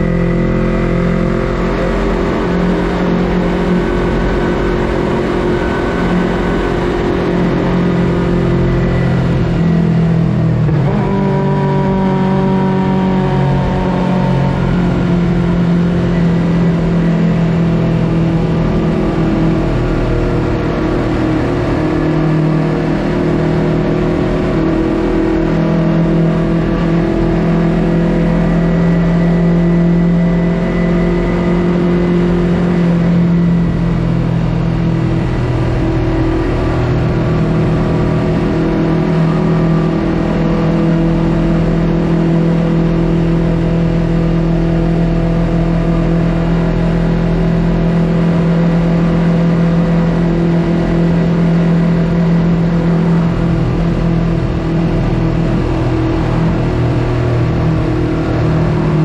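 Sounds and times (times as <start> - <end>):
motorcycle engine cruising in tunnel: 0.0 - 59.0.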